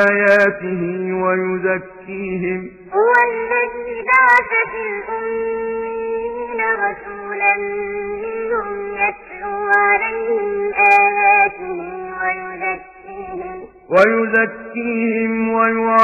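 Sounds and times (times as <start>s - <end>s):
person reciting melodically: 0.0s - 16.0s.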